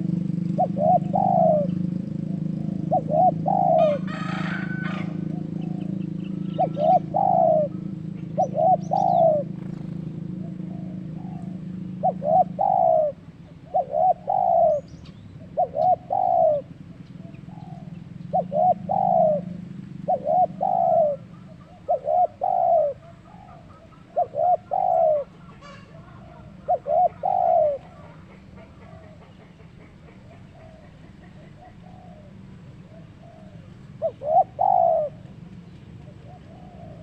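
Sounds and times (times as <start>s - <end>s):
dove cooing: 0.0s - 37.0s.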